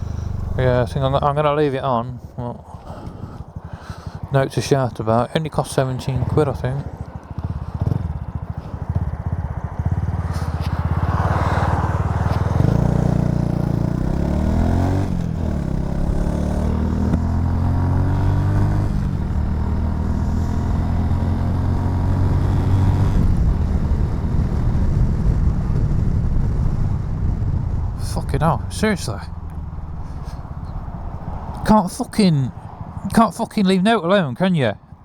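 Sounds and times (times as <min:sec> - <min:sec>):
motorcycle engine accelerating: 0:00.0 - 0:33.5.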